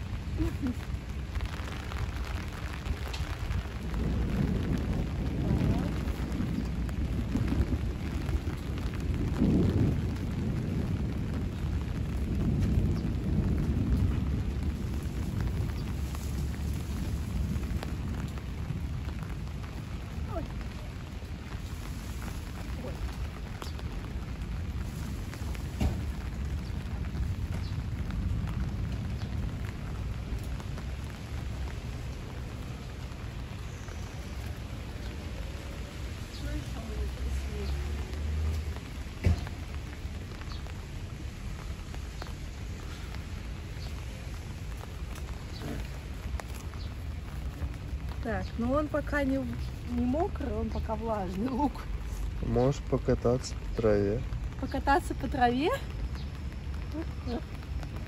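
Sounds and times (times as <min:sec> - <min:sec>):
light rain: 0:00.0 - 0:58.0
wind buffeting microphone: 0:00.0 - 0:58.0.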